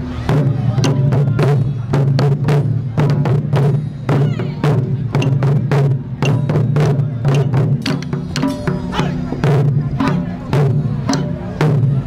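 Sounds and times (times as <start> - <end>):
drums struck with sticks: 0.0 - 12.0.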